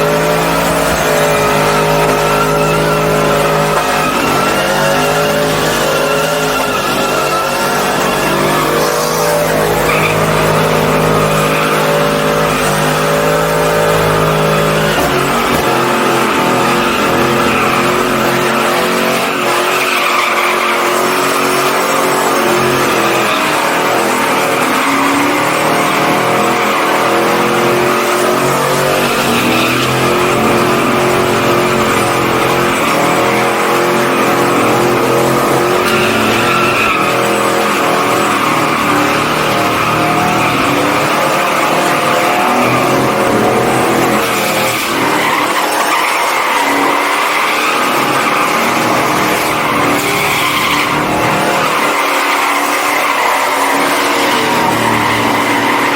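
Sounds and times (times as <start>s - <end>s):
truck engine revving high: 0.0s - 55.9s
tyres squealing on pavement: 0.0s - 55.9s.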